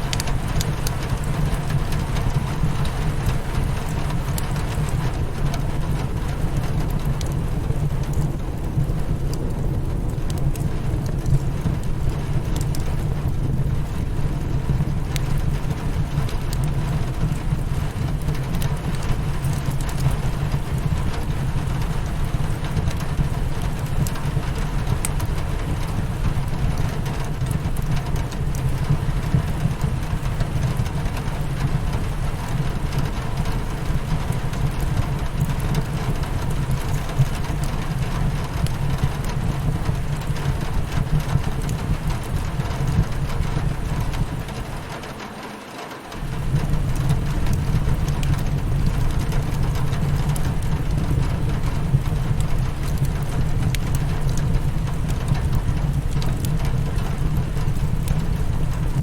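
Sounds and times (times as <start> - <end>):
rain on a windowpane: 0.0 - 59.0
wood fire crackling: 0.0 - 59.0.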